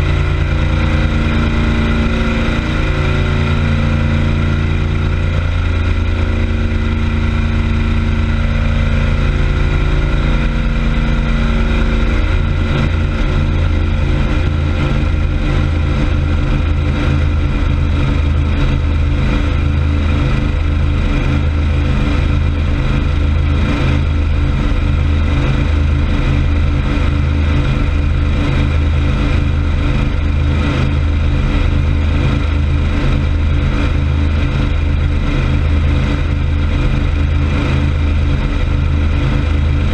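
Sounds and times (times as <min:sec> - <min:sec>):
churning prop wash: 0:00.0 - 0:39.9
motorboat engine running: 0:00.0 - 0:39.9.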